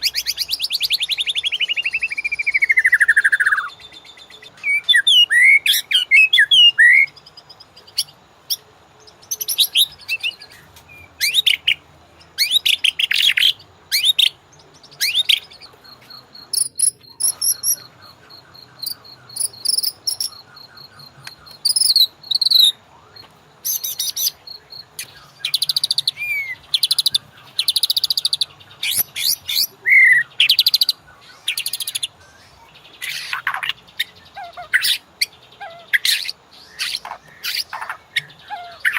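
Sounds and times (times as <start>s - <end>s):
thin steady high tone: 0.0s - 33.1s
bird singing varied phrases: 0.0s - 38.9s.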